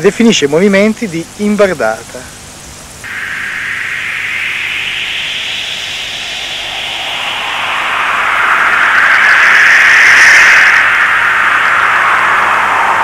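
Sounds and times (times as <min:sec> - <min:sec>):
loud steady rushing hiss: 0:00.0 - 0:13.0.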